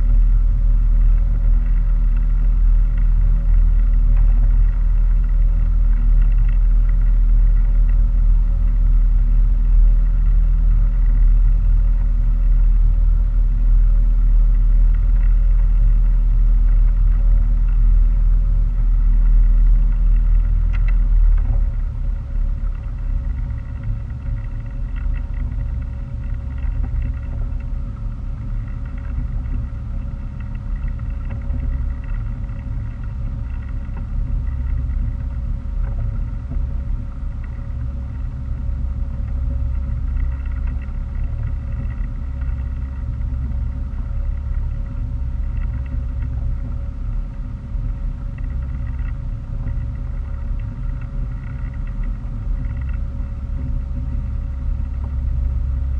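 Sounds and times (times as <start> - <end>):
faint steady tones: 0.0 - 55.9
motorboat engine running: 0.0 - 55.9.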